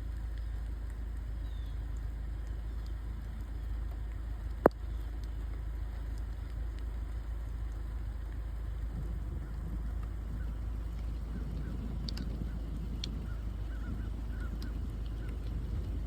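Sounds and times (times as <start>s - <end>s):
faint drips: 0.0s - 16.0s
low rumble: 0.0s - 16.0s
steady rain: 0.0s - 16.0s.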